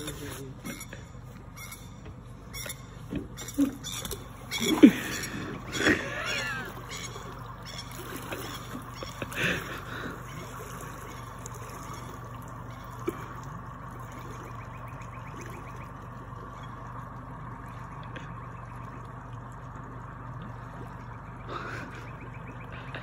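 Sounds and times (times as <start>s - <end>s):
shallow water lapping: 0.0s - 23.0s.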